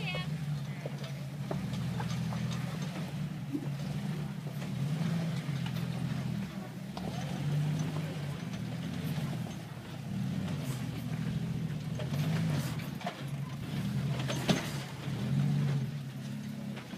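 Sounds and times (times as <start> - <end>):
engine at low revs: 0.0 - 16.9.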